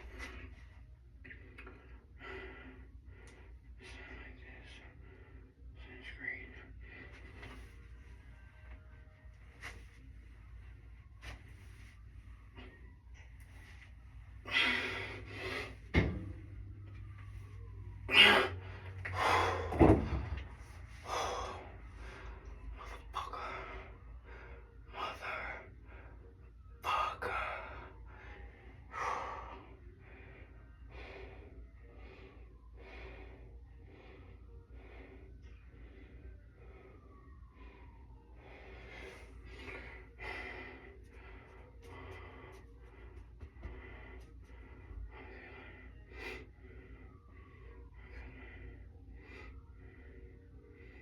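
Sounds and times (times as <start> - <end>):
person breathing hard: 1.3 - 8.4, 13.7 - 51.0.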